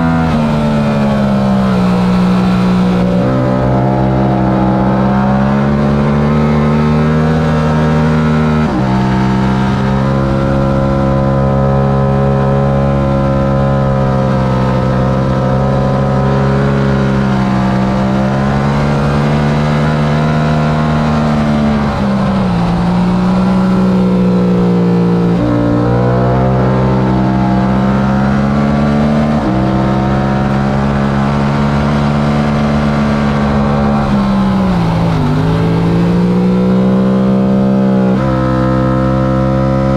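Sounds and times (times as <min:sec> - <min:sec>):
motorbike engine revving hard: 0:00.0 - 0:39.9.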